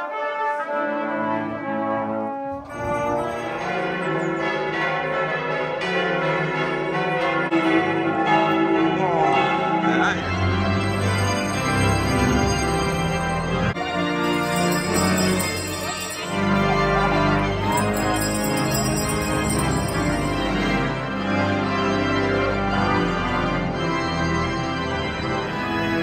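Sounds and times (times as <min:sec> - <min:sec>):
brass band music: 0:00.0 - 0:06.0, 0:09.2 - 0:26.0
church bells pealing: 0:02.5 - 0:26.0.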